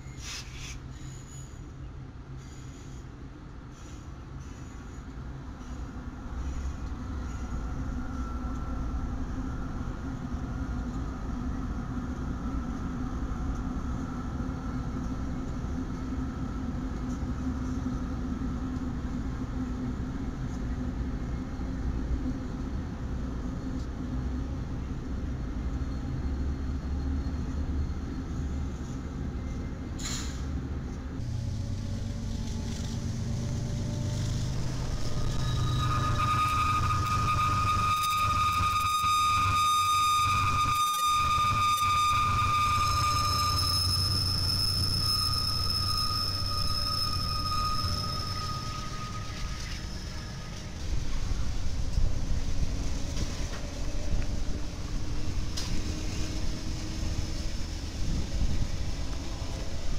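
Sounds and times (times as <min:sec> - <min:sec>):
diesel locomotive low hum: 0:00.0 - 0:59.9
diesel locomotives rumbling: 0:00.0 - 0:59.9.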